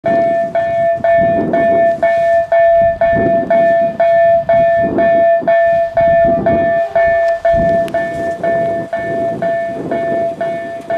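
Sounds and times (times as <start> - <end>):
level crossing bell ringing: 0.1 - 10.9.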